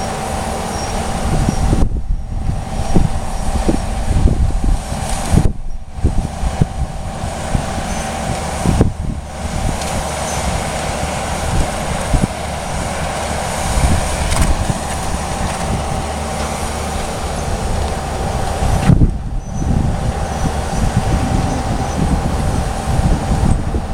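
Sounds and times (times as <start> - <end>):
vehicle rumbling: 0.0 - 23.9.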